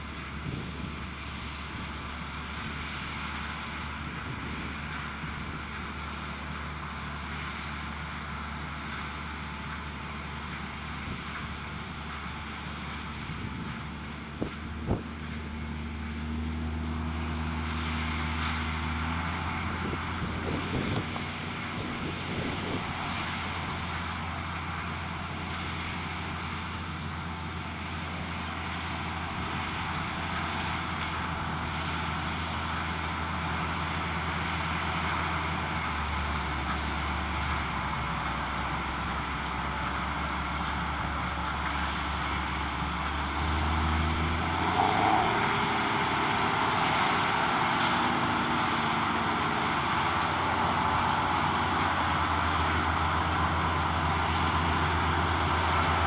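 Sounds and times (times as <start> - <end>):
deep engine drone: 0.0 - 56.0
mechanical rumble: 0.0 - 56.0.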